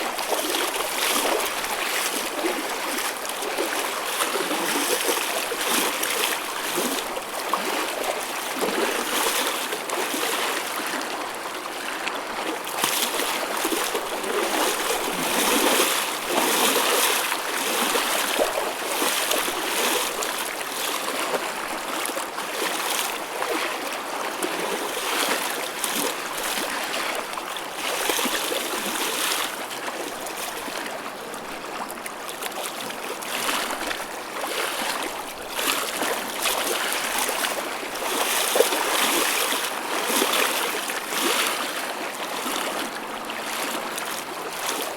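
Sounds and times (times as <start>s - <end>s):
water waves splashing: 0.0s - 30.9s, 31.7s - 44.9s.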